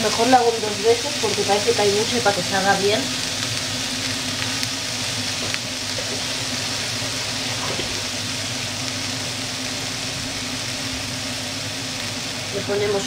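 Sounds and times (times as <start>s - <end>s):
constant low hum: 0.0s - 13.0s
meat sizzling in a frying pan: 0.0s - 13.0s.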